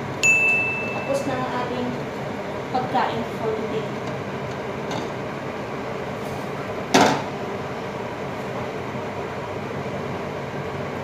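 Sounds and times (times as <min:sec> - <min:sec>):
pot boiling: 0:00.0 - 0:11.0.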